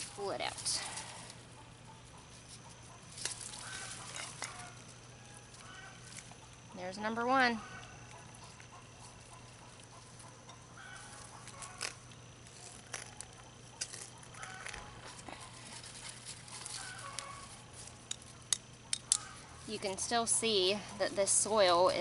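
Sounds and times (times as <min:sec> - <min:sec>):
soil rustling and tapping: 0:00.0 - 0:07.2, 0:07.8 - 0:22.0.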